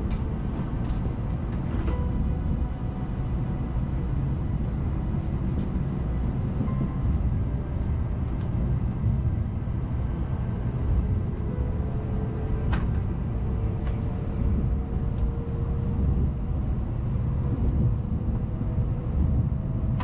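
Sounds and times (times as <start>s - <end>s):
train cabin low rumble: 0.0s - 20.0s.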